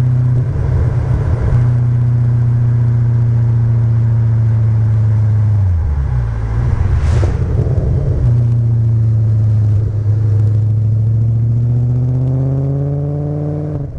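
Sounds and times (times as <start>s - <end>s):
car engine droning: 0.0s - 13.9s.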